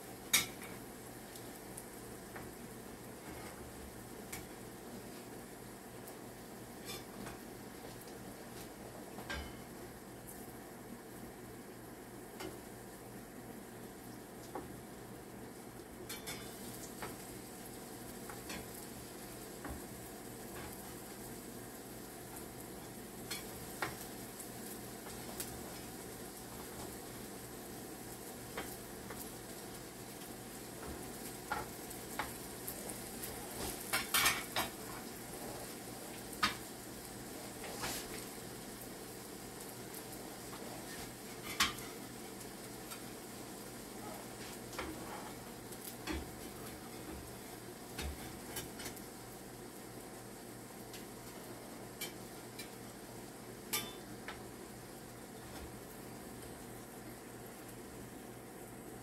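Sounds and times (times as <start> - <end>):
fritters sizzling in oil: 0.0 - 59.0.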